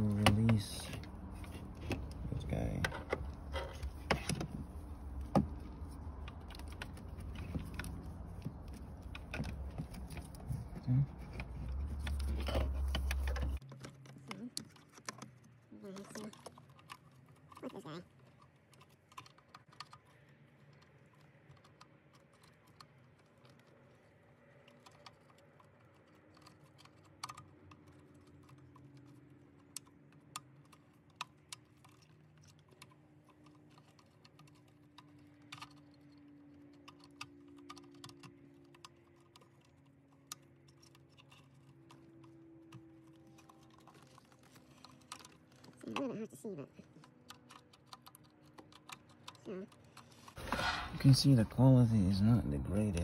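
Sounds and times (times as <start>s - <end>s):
connectors clicking and tapping: 0.0s - 46.1s, 46.8s - 53.0s.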